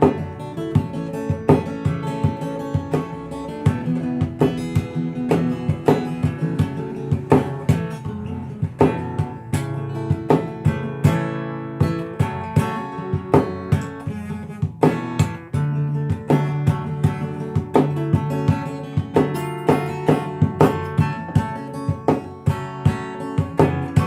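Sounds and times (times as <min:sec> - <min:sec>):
fingerstyle acoustic guitar: 0:00.0 - 0:24.0.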